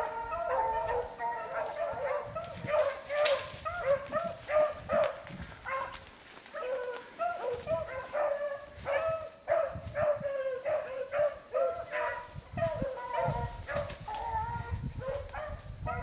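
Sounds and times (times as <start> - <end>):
hounds baying: 0.0 - 16.0.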